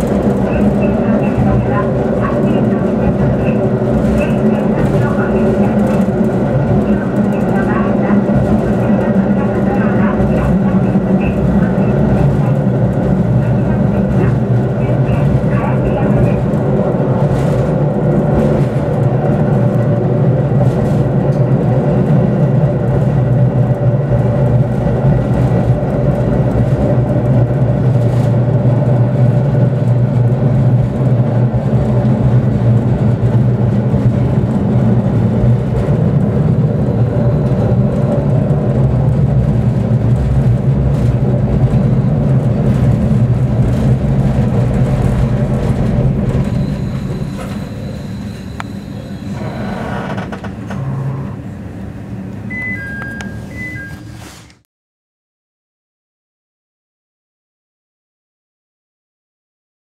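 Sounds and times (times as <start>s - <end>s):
wheels running on rails: 0.0s - 51.0s
diesel engine drone: 0.0s - 54.3s.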